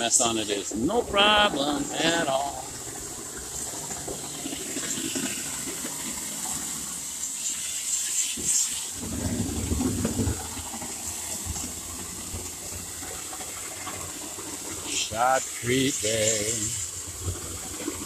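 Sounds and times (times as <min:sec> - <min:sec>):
concrete spraying hiss: 0:00.0 - 0:18.0.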